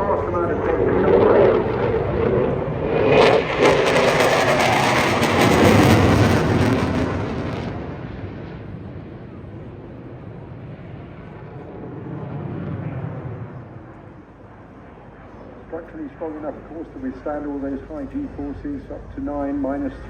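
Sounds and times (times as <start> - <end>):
distant jet rumble: 0.0 - 20.0
fighter jet roar: 0.0 - 20.0.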